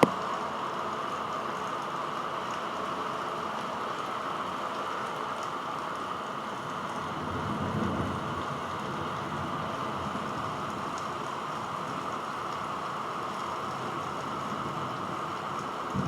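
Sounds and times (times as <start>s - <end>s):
heavy rain: 0.0s - 16.0s
raindrop ticks: 0.0s - 16.0s.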